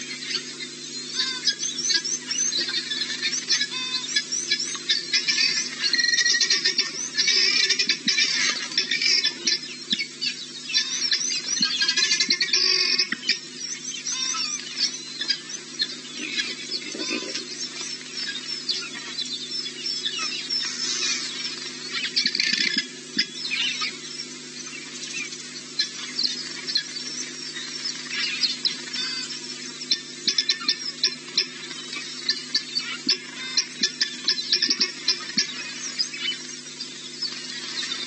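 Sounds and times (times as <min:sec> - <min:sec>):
small birds chirping: 0:00.0 - 0:38.0
steady low hum: 0:00.0 - 0:38.0.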